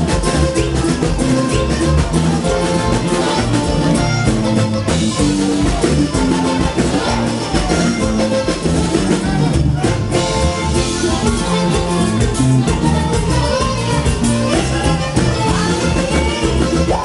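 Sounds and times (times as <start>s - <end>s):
bass: 0.0s - 17.0s
button accordion melody: 0.0s - 17.0s
drums: 0.0s - 17.0s.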